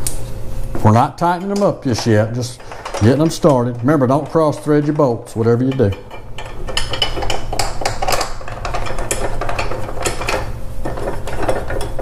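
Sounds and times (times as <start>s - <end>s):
metal bolts clinking and scraping: 1.3s - 12.0s.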